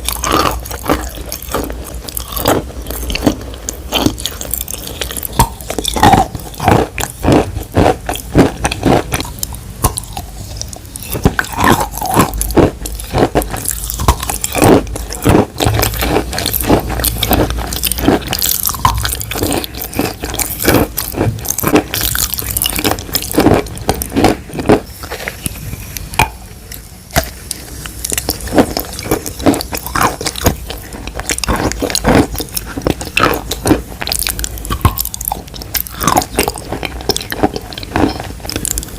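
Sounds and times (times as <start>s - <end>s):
wet crunchy chewing: 0.0s - 38.9s.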